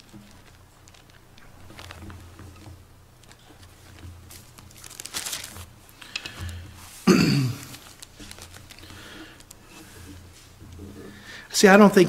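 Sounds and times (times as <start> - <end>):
book pages rustling: 0.0 - 11.3.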